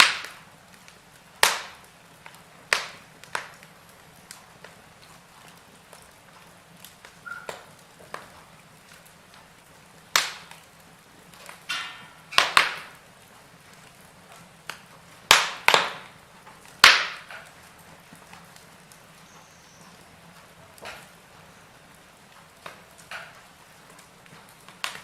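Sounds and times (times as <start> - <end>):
burning logs crackling: 0.0 - 25.0
faint steady hiss: 0.0 - 25.0
sharp pops of burning logs: 0.0 - 25.0.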